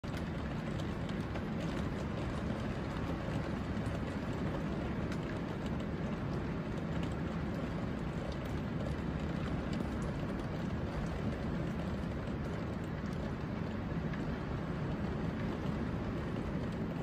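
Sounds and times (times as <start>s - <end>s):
heavy rain pouring: 0.0s - 17.0s
raindrops ticking: 0.0s - 17.0s.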